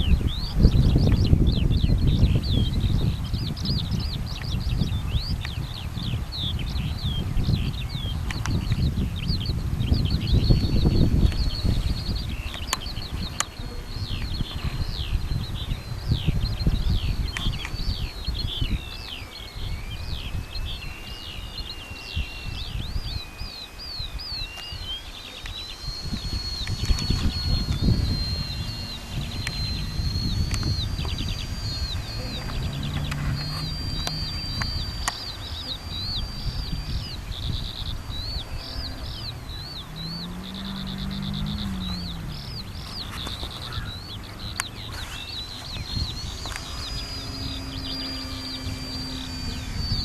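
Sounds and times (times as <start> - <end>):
birds chirping: 0.0 - 50.0
model plane engine whine: 0.0 - 50.0
wind rumble on microphone: 0.0 - 50.0.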